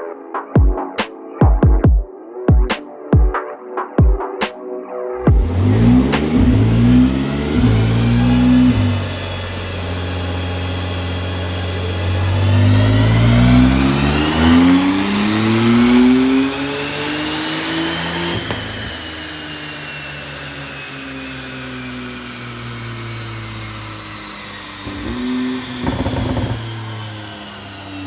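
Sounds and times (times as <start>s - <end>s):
car engine revving: 5.2s - 28.0s
rising high whine: 5.2s - 28.0s.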